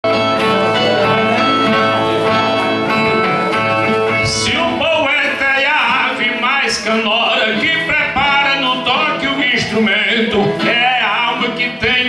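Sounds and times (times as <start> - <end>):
person singing: 0.0 - 12.0
steel-strung guitar plucked and strummed: 0.0 - 12.0.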